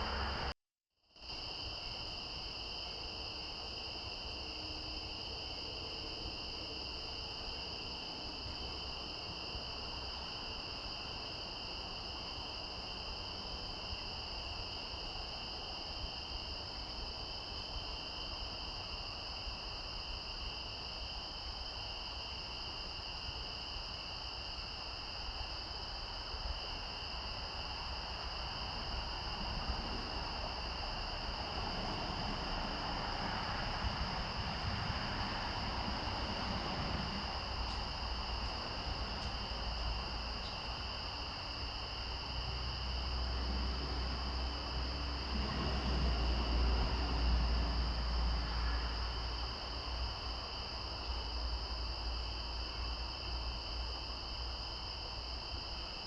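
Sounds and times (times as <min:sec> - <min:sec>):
low even hiss: 0:00.0 - 0:00.6, 0:01.2 - 0:56.0
insects chirring: 0:01.2 - 0:56.0.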